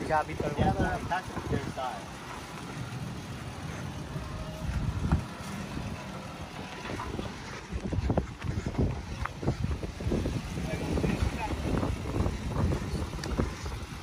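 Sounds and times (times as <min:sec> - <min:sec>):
truck engine running slowly: 0:00.0 - 0:14.0
wind buffeting microphone: 0:00.0 - 0:14.0.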